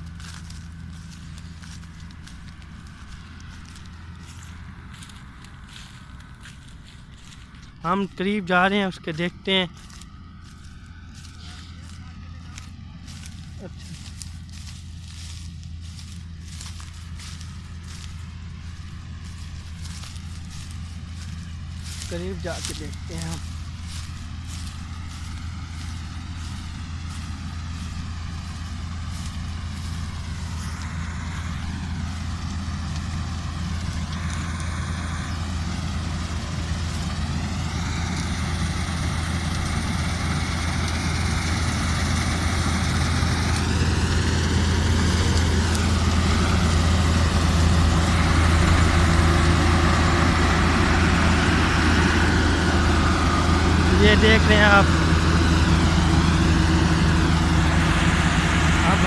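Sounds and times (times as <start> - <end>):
combine harvester engine hum: 0.0 - 59.0
threshing machinery whirring: 0.0 - 59.0.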